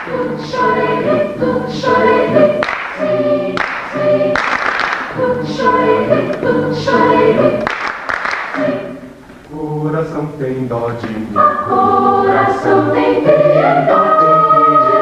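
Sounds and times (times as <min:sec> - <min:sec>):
choir singing a cappella: 0:00.0 - 0:09.9, 0:10.8 - 0:15.0.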